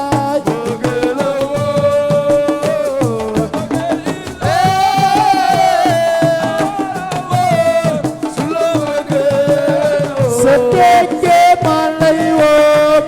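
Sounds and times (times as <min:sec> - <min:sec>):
hand drums beating: 0:00.0 - 0:13.0.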